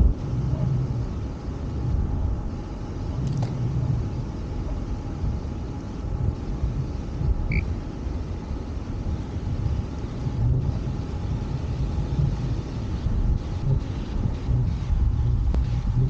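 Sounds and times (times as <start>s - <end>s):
road and tyre noise: 0.0s - 16.0s
wind rumbling on microphone: 0.0s - 16.0s.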